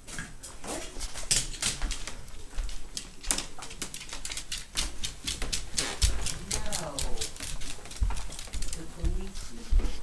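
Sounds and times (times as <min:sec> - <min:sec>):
dog nails clicking on wood floor: 0:00.2 - 0:10.0.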